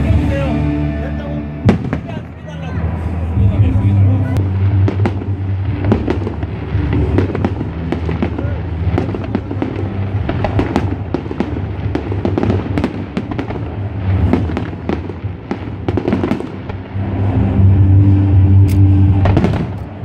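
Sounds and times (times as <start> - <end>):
fireworks bangs and crackles: 0.0 - 20.0
music: 0.0 - 20.0.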